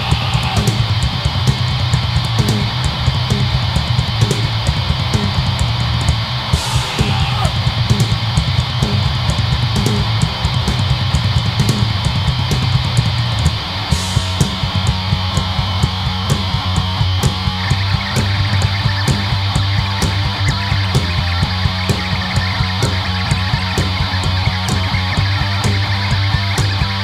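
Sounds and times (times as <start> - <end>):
fast cymbal and drum hits: 0.0 - 27.0
punk band playing live: 0.0 - 27.0.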